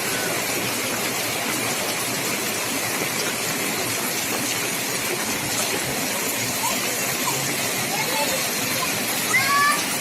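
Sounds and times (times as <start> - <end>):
rain falling steadily: 0.0 - 10.0.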